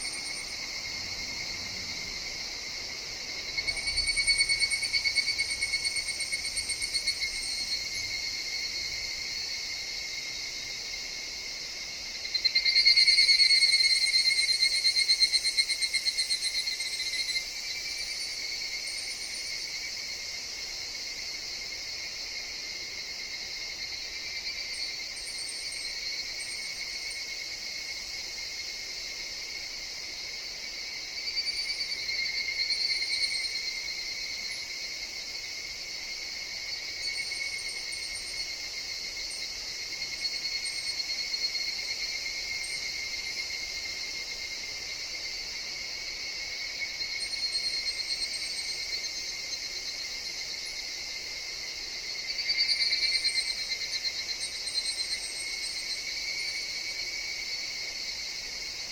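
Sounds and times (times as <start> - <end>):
cicadas droning: 0.0 - 58.9
single cicada calls: 0.0 - 58.9.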